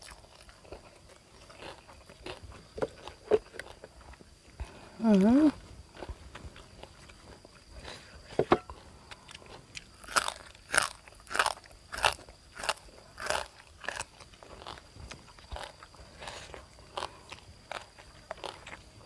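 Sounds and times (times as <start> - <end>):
chewing crunchy food: 0.0 - 19.0.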